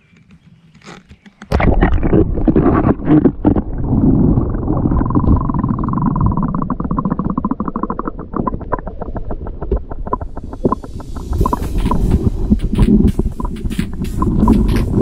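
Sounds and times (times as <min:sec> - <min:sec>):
microphone plunging into water: 0:01.5 - 0:15.0
muffled underwater rushing and bubbling: 0:01.5 - 0:15.0.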